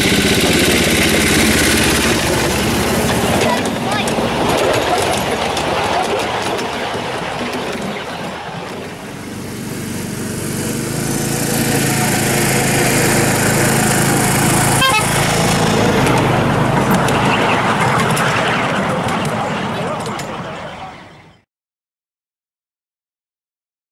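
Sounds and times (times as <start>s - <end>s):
small locomotive engine running: 0.0s - 21.2s
train rumbling over track: 0.0s - 21.4s.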